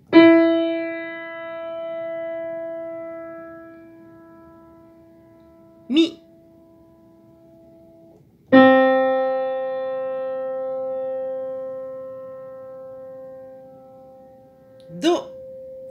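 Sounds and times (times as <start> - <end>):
piano note ringing: 0.0 - 15.9.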